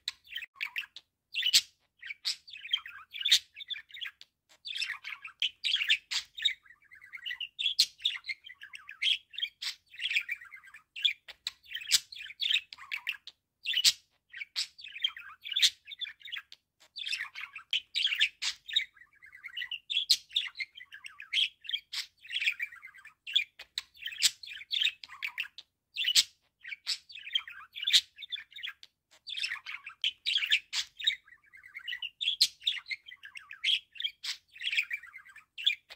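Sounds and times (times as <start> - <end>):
budgerigar warbling and chattering: 0.0 - 35.9.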